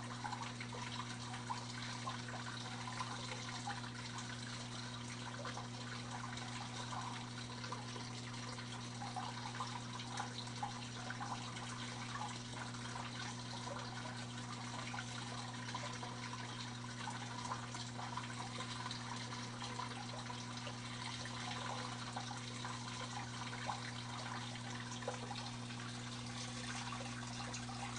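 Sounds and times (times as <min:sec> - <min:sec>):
water trickling and splashing: 0:00.0 - 0:27.9.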